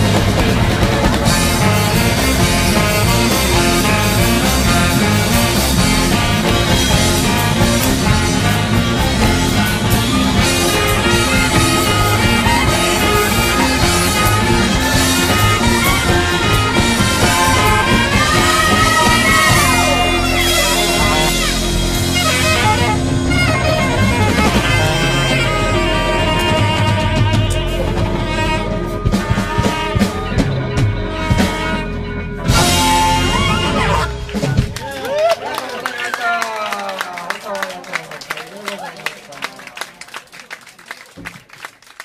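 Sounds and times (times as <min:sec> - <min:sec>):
backing music with beat and bass: 0:00.0 - 0:34.8.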